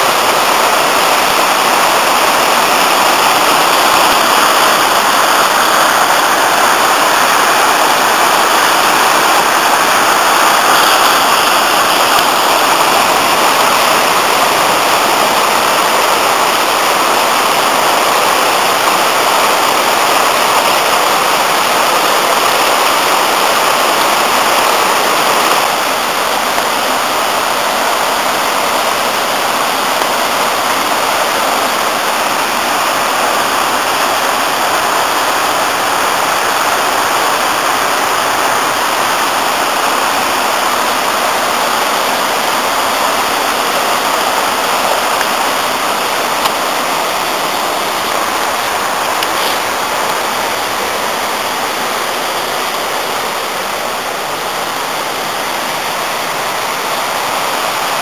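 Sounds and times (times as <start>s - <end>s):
river rushing over rapids: 0.0s - 58.0s.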